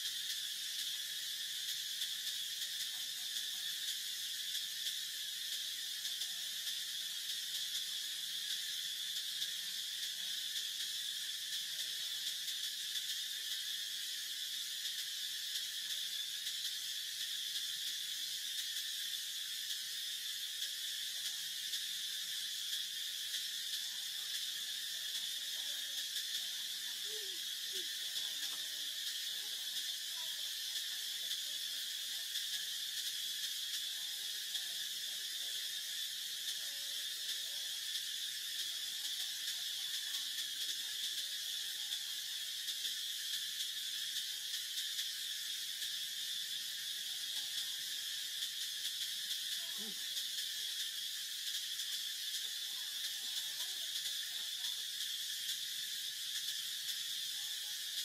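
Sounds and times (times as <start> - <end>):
insects chorus shrill drone: 0.0 - 58.0.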